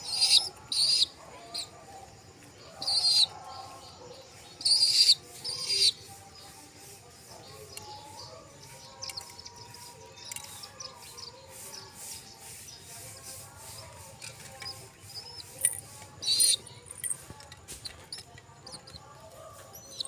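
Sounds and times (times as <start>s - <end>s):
pigeon pecking seeds: 0.0s - 20.0s
small birds chirping: 0.0s - 20.0s.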